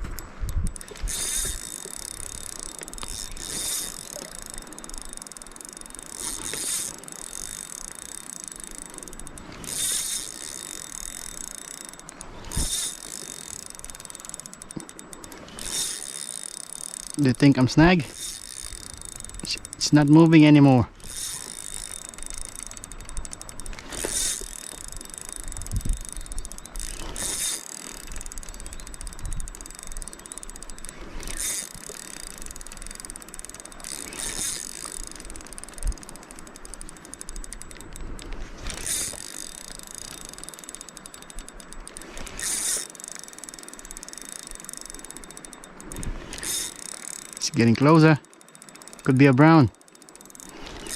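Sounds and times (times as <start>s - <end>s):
fishing reel clicking: 0.0s - 50.9s.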